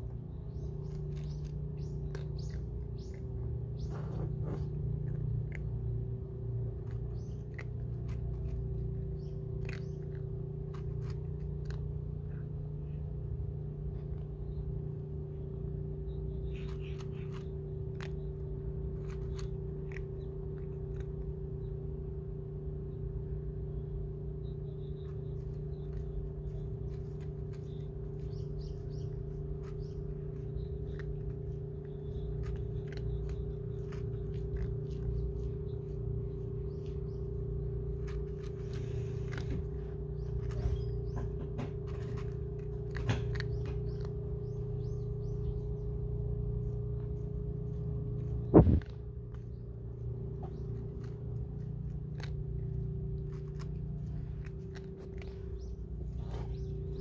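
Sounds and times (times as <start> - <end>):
cats eating crunching: 0.0 - 57.0
steady hum: 0.0 - 57.0.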